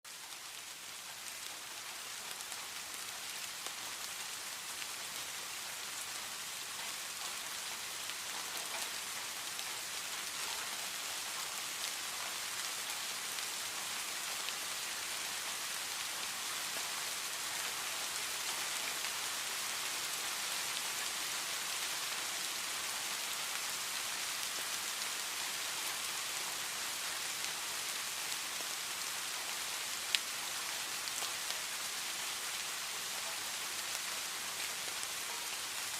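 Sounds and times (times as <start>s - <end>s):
gentle rain falling: 0.0s - 35.9s.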